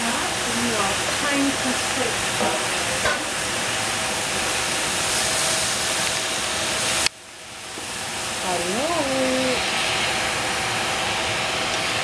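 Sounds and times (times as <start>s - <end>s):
greens sizzling in a pot: 0.0s - 12.0s.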